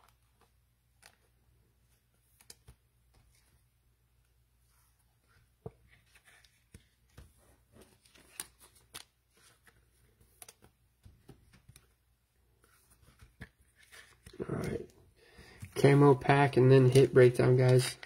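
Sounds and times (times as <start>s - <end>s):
trading cards being handled: 0.0s - 4.3s, 5.0s - 18.0s.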